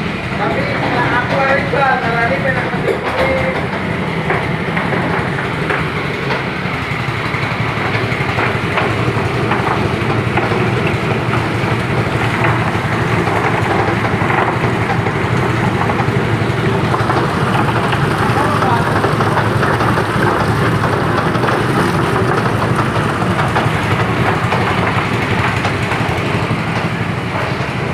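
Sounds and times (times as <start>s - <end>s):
plucking machine motor hum: 0.0s - 27.9s
machine knocks and rattles: 0.5s - 27.9s.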